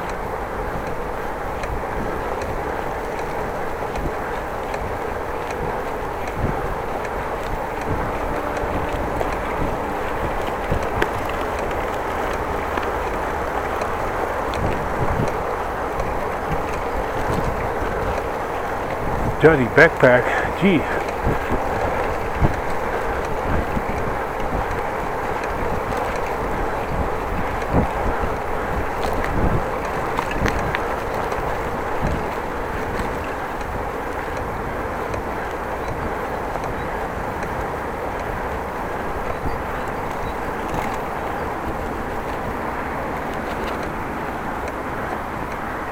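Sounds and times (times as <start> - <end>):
bike ticks and knocks: 0.0 - 19.2, 21.1 - 45.9
bicycle rolling: 0.0 - 19.4, 21.0 - 45.9
wind noise: 0.0 - 45.9.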